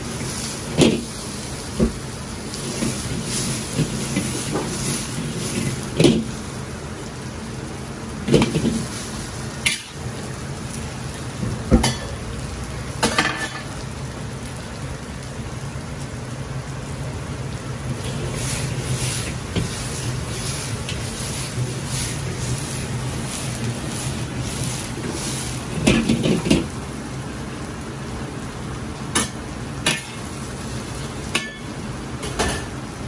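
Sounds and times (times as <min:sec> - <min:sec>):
gas burner rushing: 0:00.0 - 0:13.7, 0:17.2 - 0:33.0
oil crackling: 0:00.0 - 0:32.2
noodles sizzling in oil: 0:00.0 - 0:33.0.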